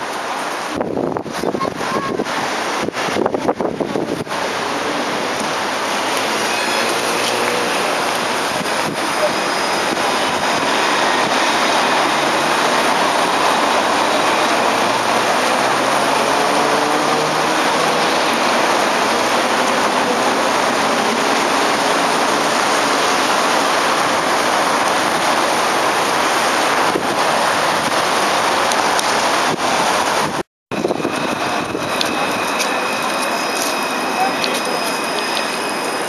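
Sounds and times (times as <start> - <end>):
rain hissing: 0.0 - 36.0
wet street noise: 0.0 - 36.0
tram electric motor whine: 3.0 - 36.0.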